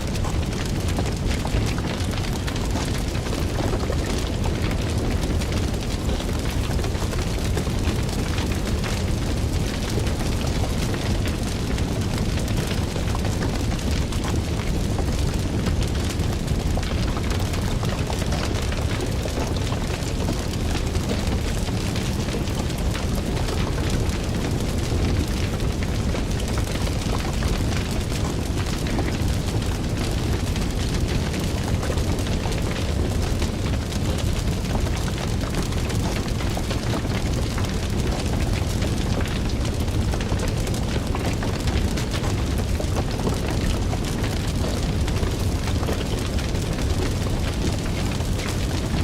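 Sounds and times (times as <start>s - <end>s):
fire rumbling and crackling: 0.0s - 49.0s.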